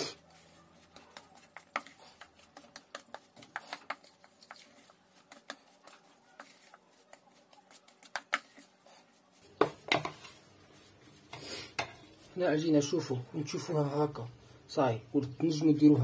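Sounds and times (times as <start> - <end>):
spoon stirring cookie dough: 0.0 - 16.0.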